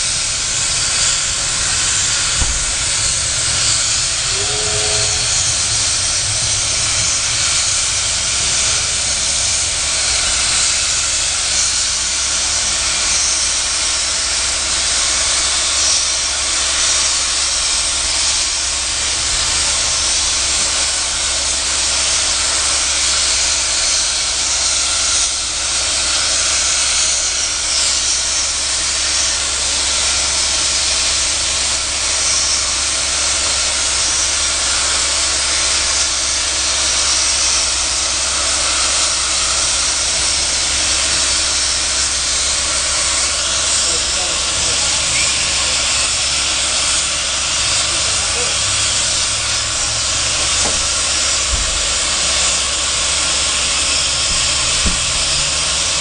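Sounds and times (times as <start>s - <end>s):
steam locomotive hissing steam: 0.0s - 56.0s.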